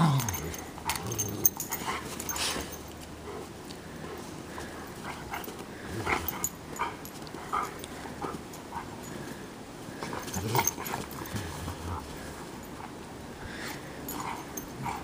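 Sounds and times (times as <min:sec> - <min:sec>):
dogs play vocalizations: 0:00.0 - 0:15.0.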